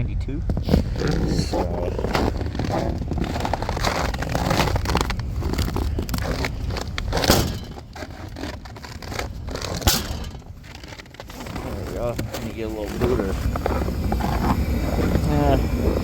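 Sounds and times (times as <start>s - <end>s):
steady low rumble: 0.0s - 16.0s
scraping and crackling handling: 0.5s - 16.0s.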